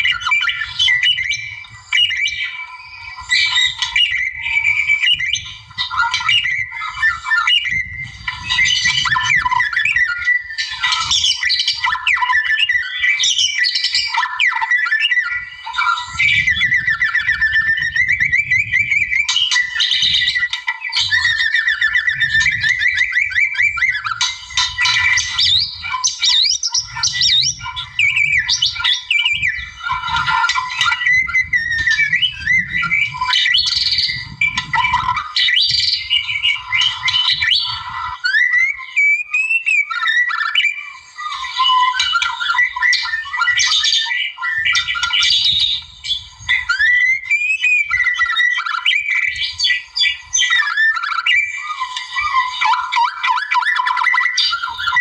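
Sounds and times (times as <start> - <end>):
bird singing whistles and trills: 0.0 - 55.0.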